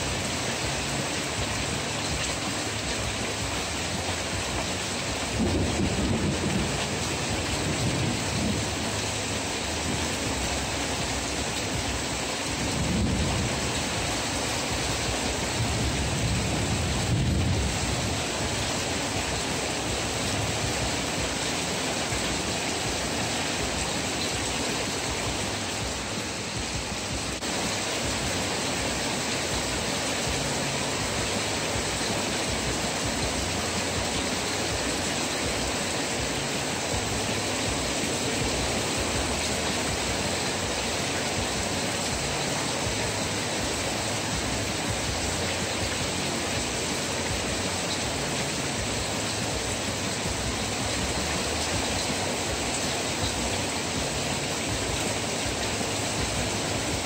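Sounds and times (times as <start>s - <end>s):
heavy rain on metal awning: 0.0s - 57.0s.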